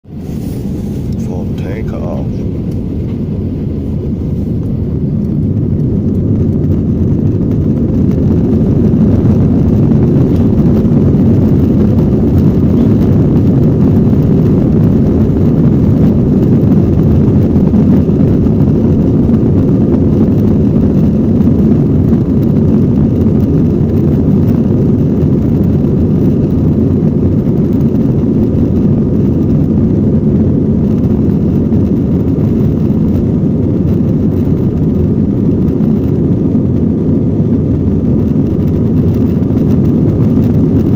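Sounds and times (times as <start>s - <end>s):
jet airliner engines rumbling: 0.0s - 40.9s.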